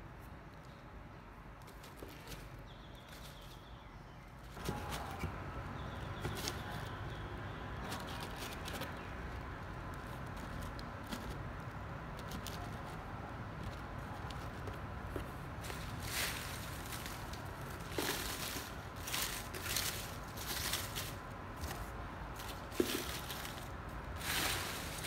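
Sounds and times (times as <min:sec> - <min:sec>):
steady background noise: 0:00.0 - 0:25.0
leaves rustling: 0:04.3 - 0:25.0.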